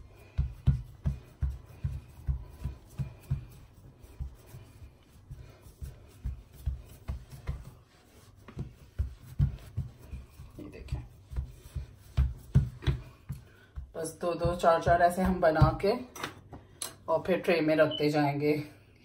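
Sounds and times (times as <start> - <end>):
hands patting dough: 0.0 - 16.1.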